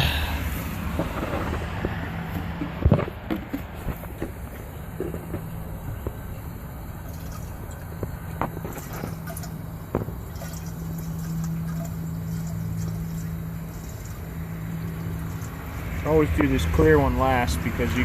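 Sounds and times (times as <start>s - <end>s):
fuel trickling and dripping: 0.0s - 18.0s
steady low hum: 0.0s - 18.0s.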